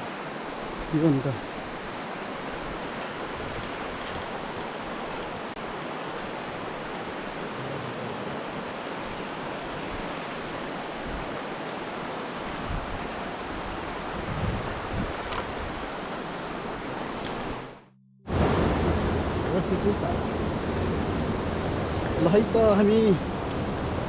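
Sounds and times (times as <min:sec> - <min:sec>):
white-water river rushing: 0:00.0 - 0:24.0.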